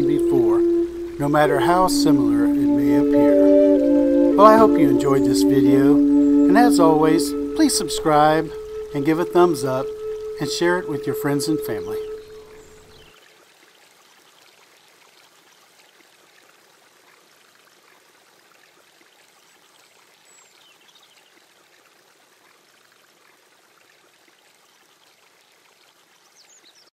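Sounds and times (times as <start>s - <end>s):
stream pouring over a weir: 0.0s - 26.9s.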